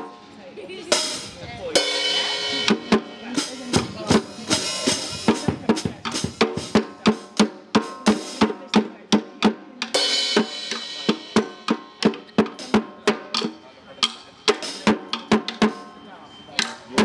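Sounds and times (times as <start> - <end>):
drum hits in steady rhythm: 0.0 - 17.0.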